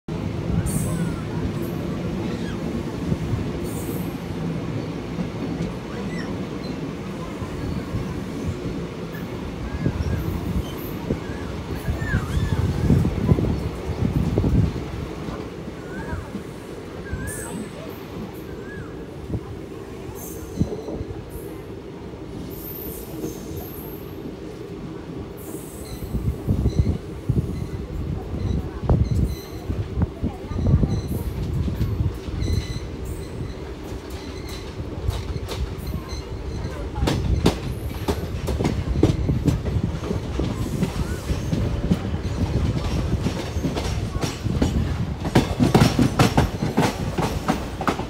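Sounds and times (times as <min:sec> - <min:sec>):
train wheels rumbling on rails: 0:00.1 - 0:48.0.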